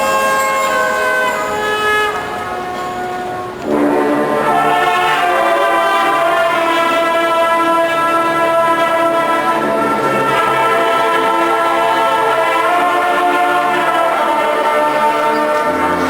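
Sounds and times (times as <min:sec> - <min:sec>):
marching band brass chords: 0:00.0 - 0:16.0.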